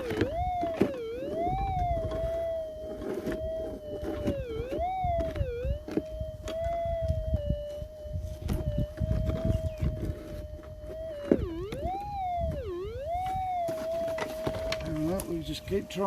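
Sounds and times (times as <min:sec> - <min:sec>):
low wind noise: 0:00.0 - 0:16.0
metal detector hum swooping: 0:00.0 - 0:16.0.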